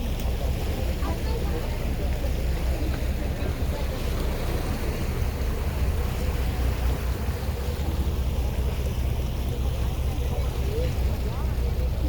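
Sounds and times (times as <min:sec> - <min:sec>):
boat engine rumble: 0:00.0 - 0:12.0
water noise: 0:00.0 - 0:12.0.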